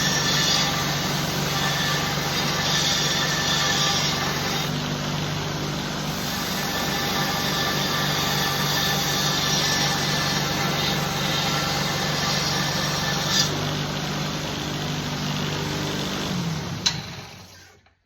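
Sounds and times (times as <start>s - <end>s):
belt grinder running: 0.0s - 17.8s.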